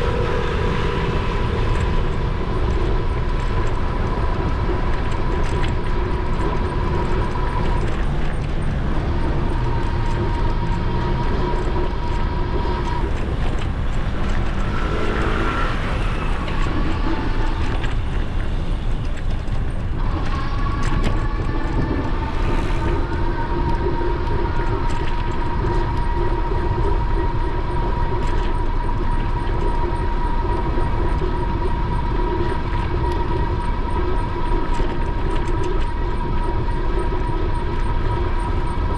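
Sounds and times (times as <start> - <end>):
wind rushing over microphone: 0.0 - 38.9
electric motor whine: 6.3 - 38.9.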